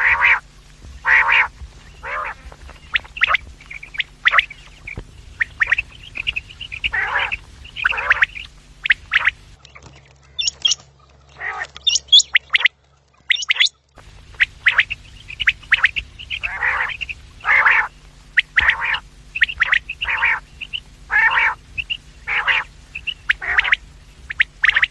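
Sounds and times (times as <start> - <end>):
quails calling harshly: 0.0 - 24.9
thin high chirps: 0.2 - 9.6, 10.4 - 10.8, 11.8 - 24.9.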